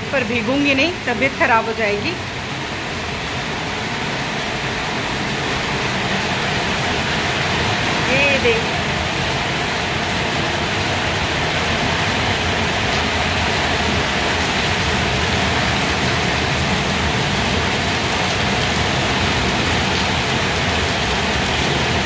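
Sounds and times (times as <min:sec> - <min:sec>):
rain splashing on concrete: 0:00.0 - 0:22.0.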